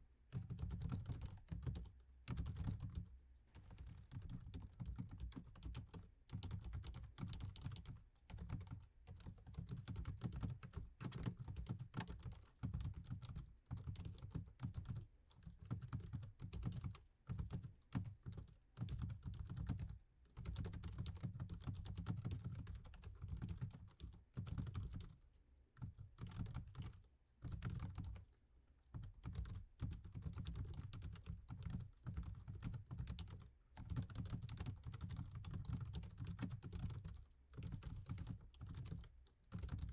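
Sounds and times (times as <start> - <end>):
fast typing on laptop keyboard: 0.3 - 25.2, 25.8 - 39.9.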